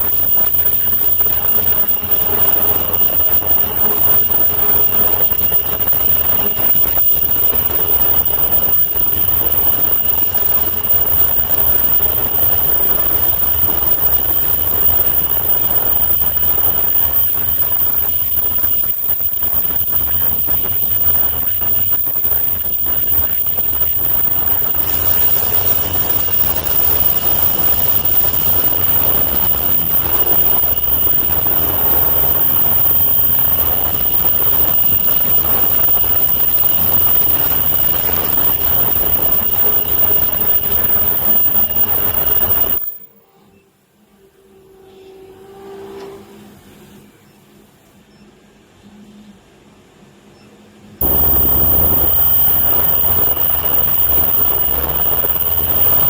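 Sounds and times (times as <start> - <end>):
rapid mechanical clatter: 0.0 - 43.1, 51.0 - 56.0
high-pitched machine whine: 0.0 - 43.4, 51.0 - 56.0.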